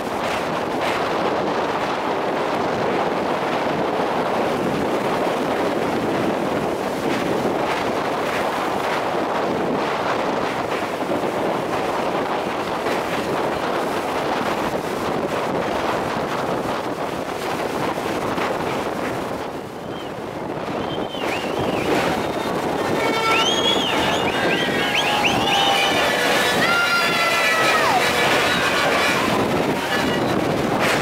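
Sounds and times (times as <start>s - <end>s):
train running noise: 0.0s - 31.0s
wind rushing over microphone: 0.0s - 31.0s.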